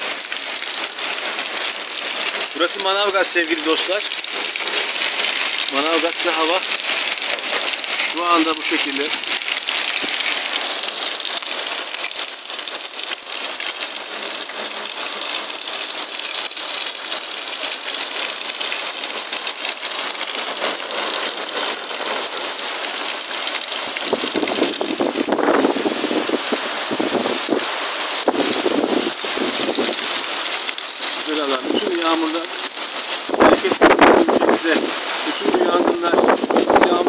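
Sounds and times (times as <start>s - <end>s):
heavy rain falling: 0.0s - 37.0s
water streaming from roof edge: 0.0s - 37.0s.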